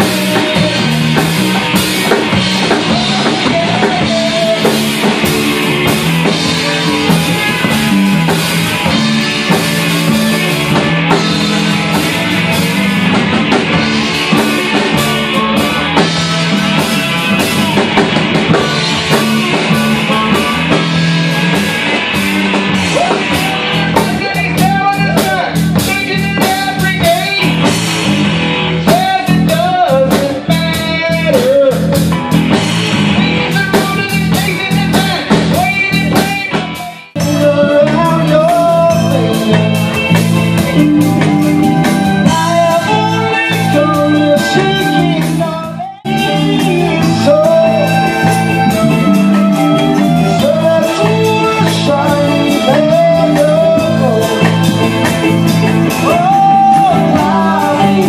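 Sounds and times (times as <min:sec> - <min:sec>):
person singing: 0:00.0 - 0:27.7, 0:28.8 - 0:32.2, 0:33.1 - 0:58.0
blues-rock band playing: 0:00.0 - 0:58.0.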